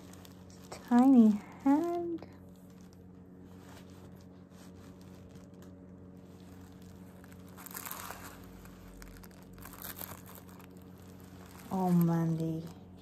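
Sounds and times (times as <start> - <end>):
steady low hum: 0.0 - 13.0
tissue paper and fabric rustling: 0.0 - 13.0.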